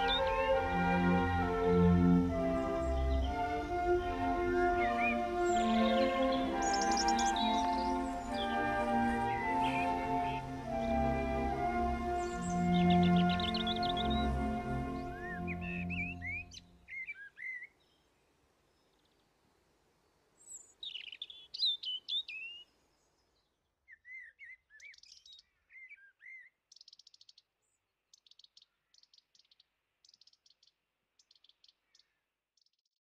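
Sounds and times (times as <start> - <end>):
songbirds chirping and whistling: 0.0 - 18.0, 20.4 - 32.9.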